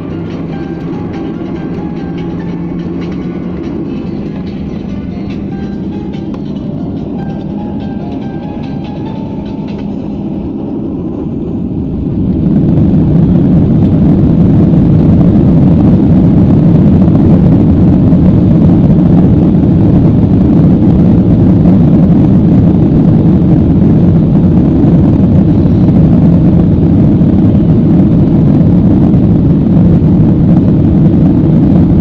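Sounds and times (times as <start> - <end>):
airliner engines rumbling: 0.0 - 32.0.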